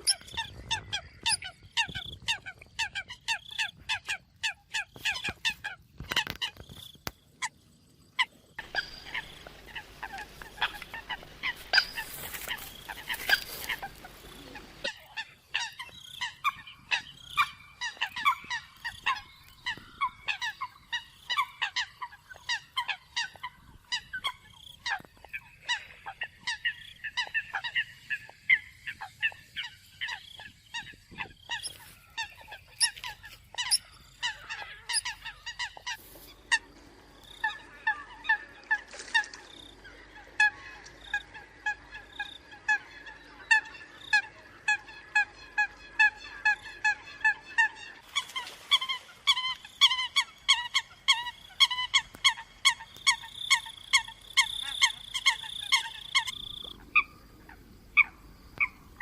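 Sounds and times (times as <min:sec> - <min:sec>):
coots honking calls: 0:08.6 - 0:59.0.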